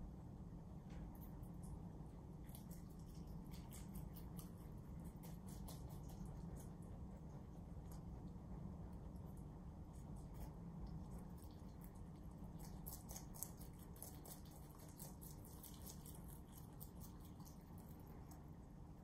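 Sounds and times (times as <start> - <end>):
rabbits chewing leafy greens: 0.8 - 19.0.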